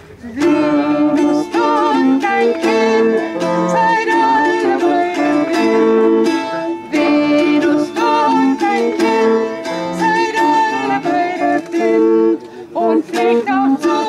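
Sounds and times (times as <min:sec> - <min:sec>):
strummed string instrument: 0:00.0 - 0:14.0
long held notes: 0:00.1 - 0:14.0
woman singing: 0:00.2 - 0:14.0.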